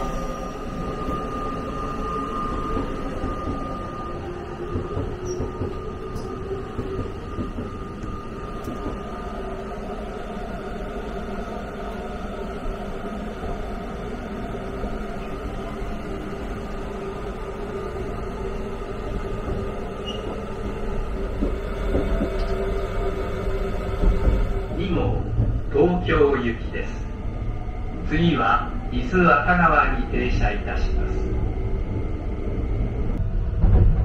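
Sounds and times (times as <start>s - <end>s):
train wheels rumbling: 0.0s - 34.0s.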